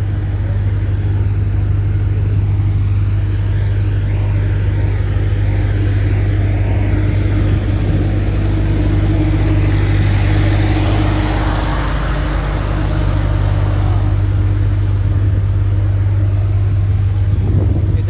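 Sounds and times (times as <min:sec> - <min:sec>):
low engine hum: 0:00.0 - 0:18.0
rushing noise: 0:02.4 - 0:17.5.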